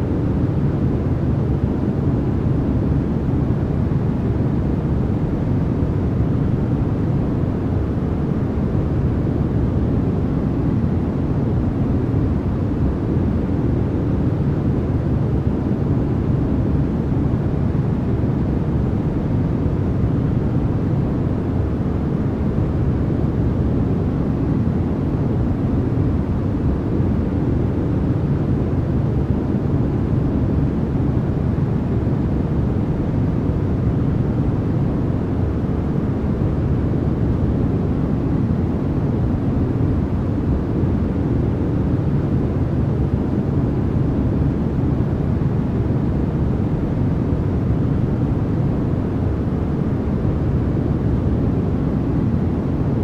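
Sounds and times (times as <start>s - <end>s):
low white noise: 0.0s - 53.0s.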